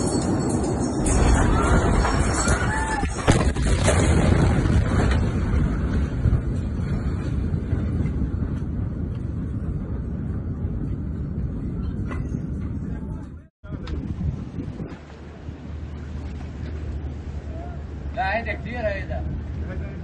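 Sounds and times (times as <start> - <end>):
wind buffeting microphone: 0.0 - 20.0
heavy low rumble: 0.1 - 20.0.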